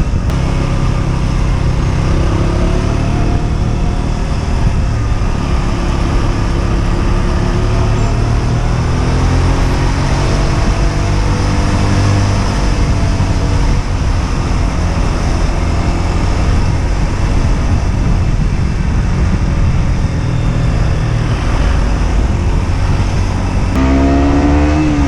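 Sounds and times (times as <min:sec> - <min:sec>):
loud rushing noise: 0:00.0 - 0:25.0
motorcycle engine running: 0:00.0 - 0:25.0.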